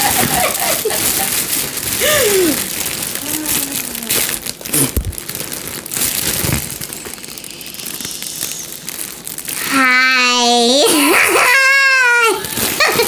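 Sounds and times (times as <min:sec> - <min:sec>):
foil balloon crinkling: 0:00.0 - 0:13.0.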